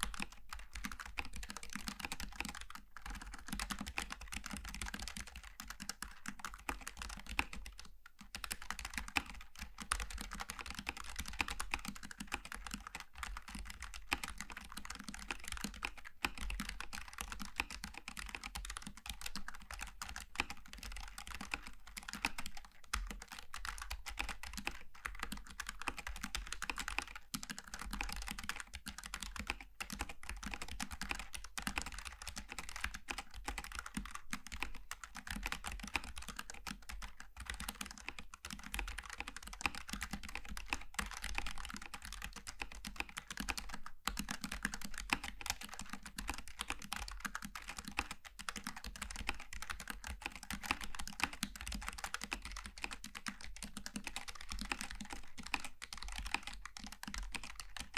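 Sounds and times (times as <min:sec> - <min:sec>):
mechanical keyboard typing: 0:00.0 - 0:57.9.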